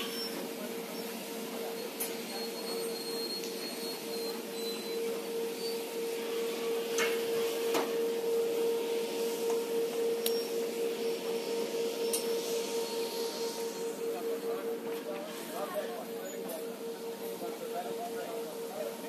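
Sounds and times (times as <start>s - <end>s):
rotisserie motor whine and hum: 0.0s - 19.0s.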